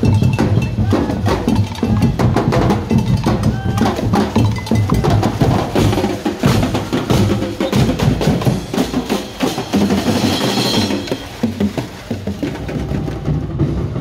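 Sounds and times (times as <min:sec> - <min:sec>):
parade drums beating: 0:00.0 - 0:14.0.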